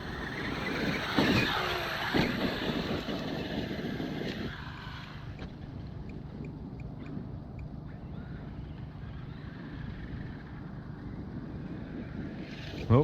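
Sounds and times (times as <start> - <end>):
rc truck driving on ice: 0.0 - 6.0, 8.1 - 13.0.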